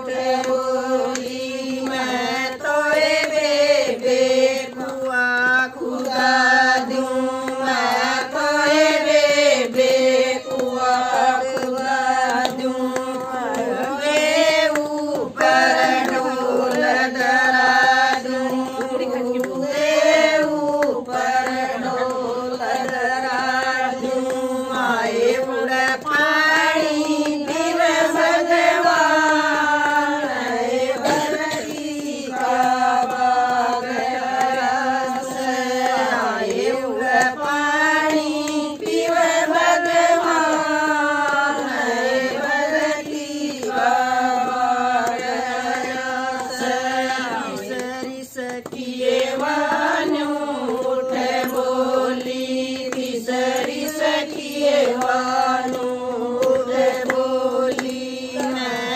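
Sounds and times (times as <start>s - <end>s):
hand claps: 0.0s - 58.9s
women singing a devotional song: 0.0s - 58.9s.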